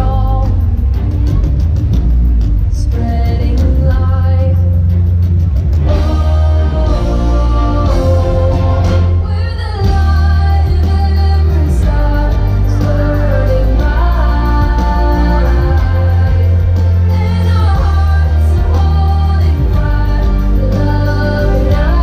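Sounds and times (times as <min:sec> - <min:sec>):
heavy sustained bass: 0:00.0 - 0:22.0
soundtrack music with singing: 0:00.0 - 0:22.0.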